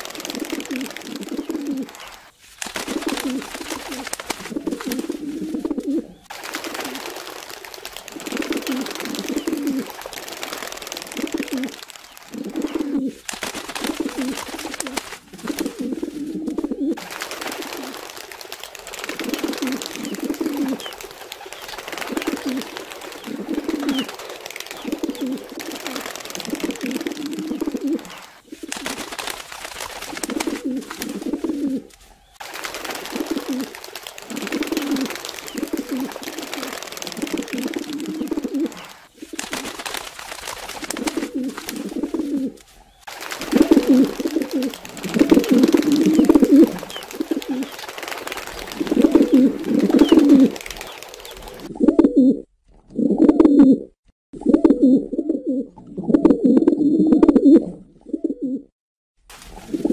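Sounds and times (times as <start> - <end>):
pigeons cooing: 0.0 - 58.7.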